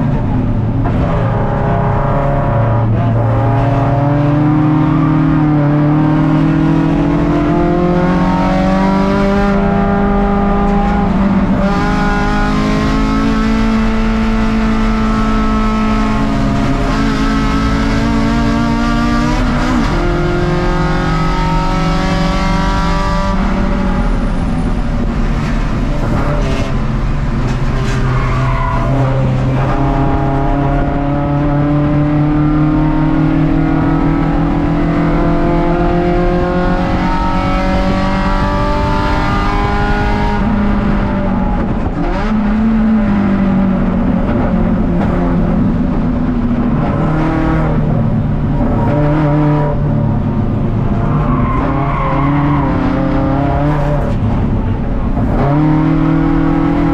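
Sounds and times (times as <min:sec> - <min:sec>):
race car engine revving: 0:00.0 - 0:56.9
road and wind noise: 0:00.0 - 0:56.9.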